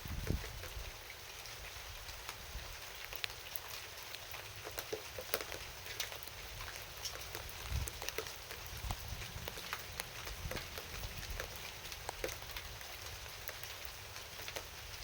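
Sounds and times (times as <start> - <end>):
rain hissing: 0.0 - 4.7, 5.6 - 15.0
raindrops ticking on hard surface: 0.0 - 15.0.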